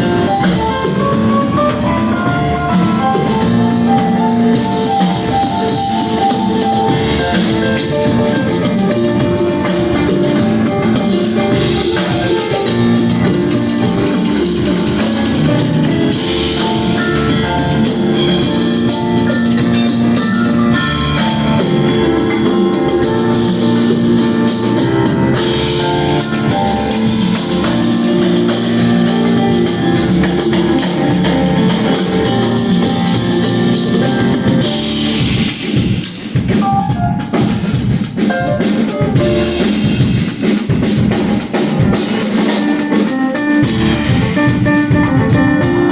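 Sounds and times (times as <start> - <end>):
drum kit: 0.0 - 45.9
live band playing loud music: 0.0 - 45.9.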